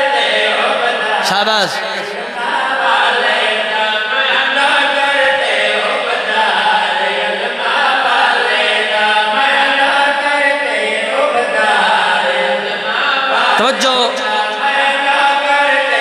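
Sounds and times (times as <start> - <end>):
voices chanting over loudspeaker: 0.0 - 16.0.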